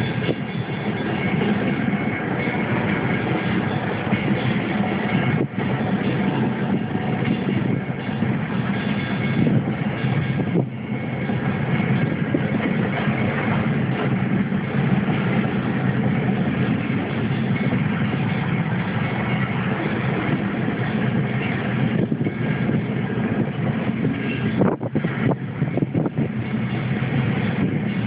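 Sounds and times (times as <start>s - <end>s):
diesel locomotive engine running: 0.0s - 28.0s
freight train passing: 0.0s - 28.0s.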